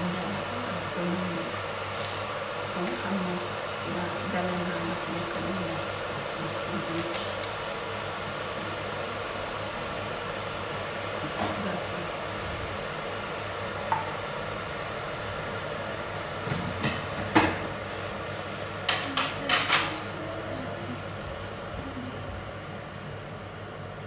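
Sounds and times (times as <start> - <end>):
fan hum: 0.0 - 24.0.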